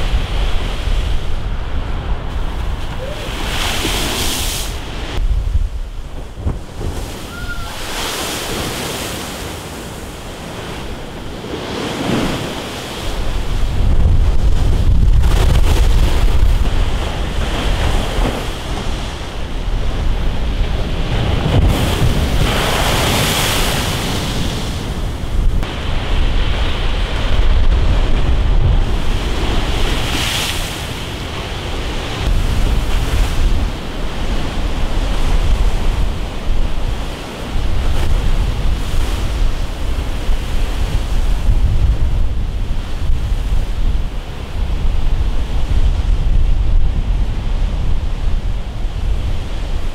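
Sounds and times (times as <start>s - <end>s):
churning white water: 0.0s - 40.6s
waves breaking against sea wall: 0.0s - 49.9s
wind rumble on microphone: 0.0s - 49.9s.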